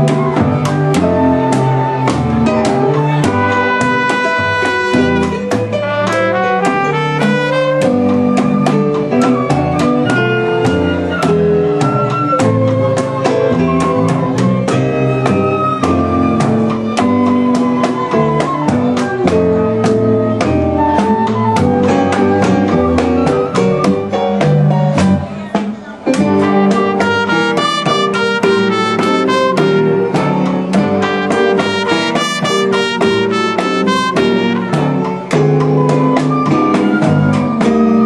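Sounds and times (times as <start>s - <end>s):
band playing live: 0.0s - 38.0s.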